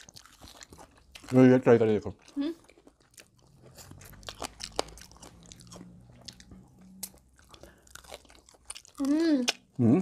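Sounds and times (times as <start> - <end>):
crunching bites of fried chicken: 0.0 - 1.5, 2.2 - 9.7
chewing: 0.0 - 9.8.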